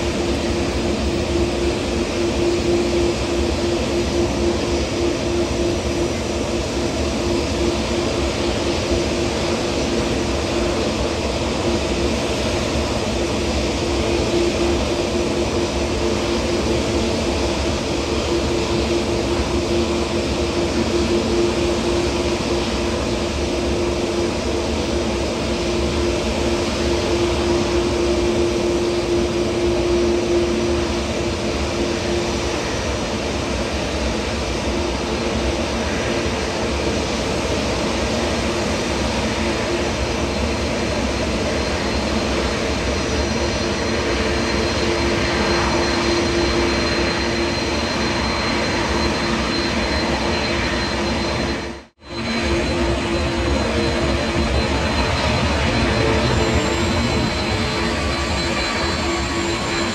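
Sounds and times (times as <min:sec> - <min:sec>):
faint high whine: 0:00.0 - 0:59.9
jet engines rumbling: 0:00.0 - 0:59.9.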